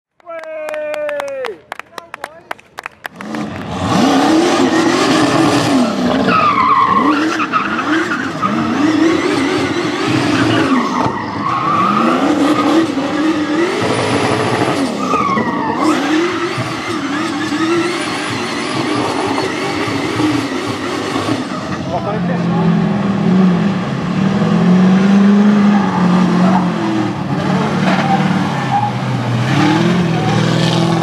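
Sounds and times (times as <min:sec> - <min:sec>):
car engine revving: 0:03.1 - 0:31.0.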